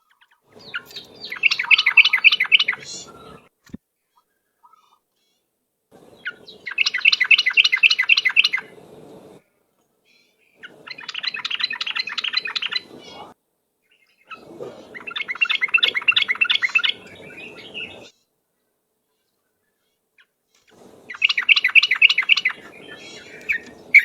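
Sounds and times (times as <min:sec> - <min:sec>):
bird chattering song: 0:00.0 - 0:03.5, 0:04.2 - 0:09.4, 0:10.1 - 0:18.2, 0:20.7 - 0:24.0.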